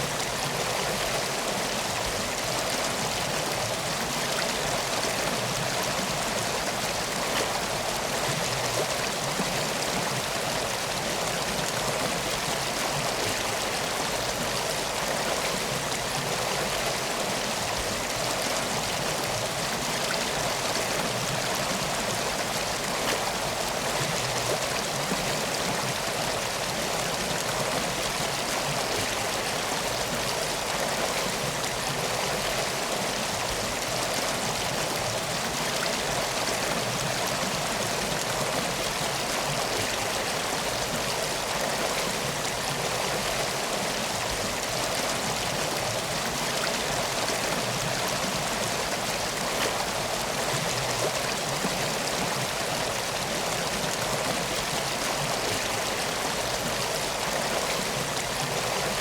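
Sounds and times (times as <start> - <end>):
stream of water flowing: 0.0 - 59.0.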